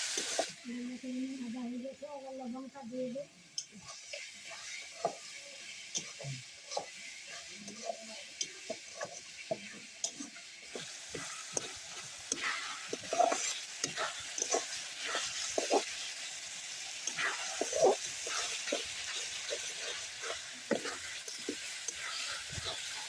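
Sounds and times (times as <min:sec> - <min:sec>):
food sizzling in a pan: 0:00.0 - 0:23.0
spatula scraping a pan: 0:03.6 - 0:23.0.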